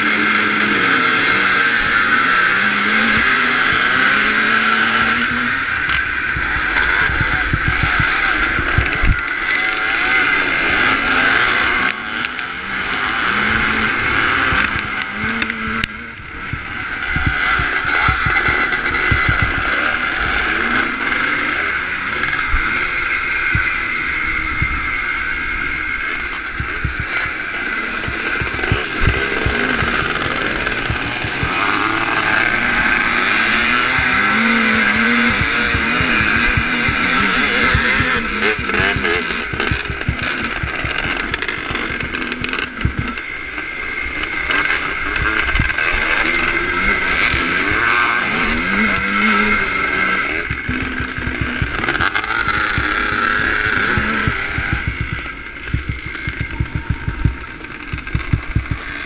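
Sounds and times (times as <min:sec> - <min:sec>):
other motorbikes: 0:00.0 - 0:59.0
two-stroke motocross engine revving: 0:00.0 - 0:59.0.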